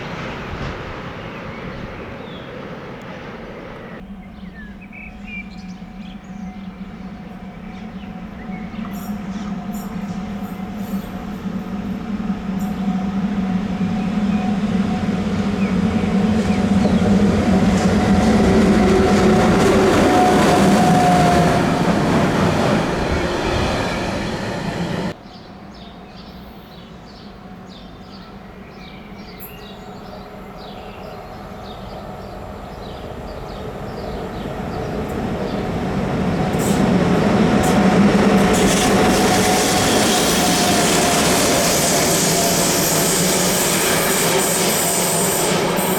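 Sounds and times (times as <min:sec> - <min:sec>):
train passing: 0:00.0 - 0:45.9.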